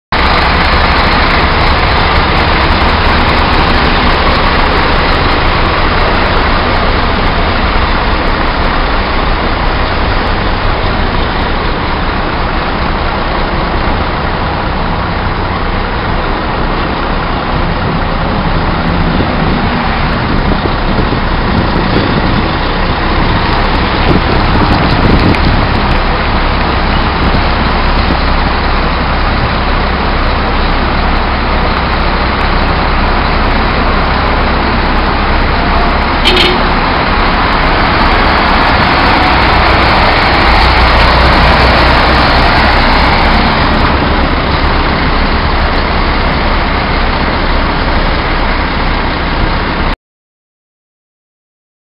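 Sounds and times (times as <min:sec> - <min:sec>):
diesel engine droning: 0:00.1 - 0:50.0.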